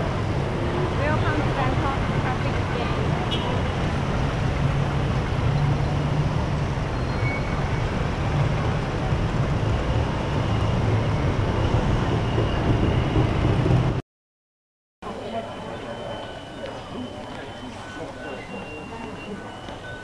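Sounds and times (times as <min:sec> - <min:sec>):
city road traffic rumble: 0:00.0 - 0:14.0, 0:15.0 - 0:20.0.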